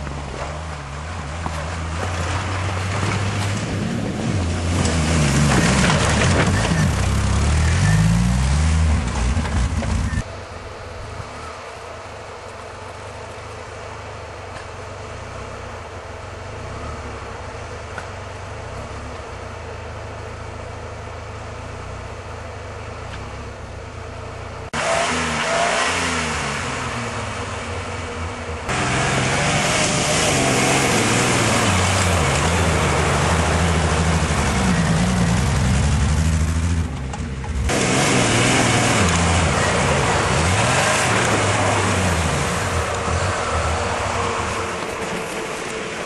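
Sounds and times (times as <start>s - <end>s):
engine idling and revving: 0.0s - 46.0s.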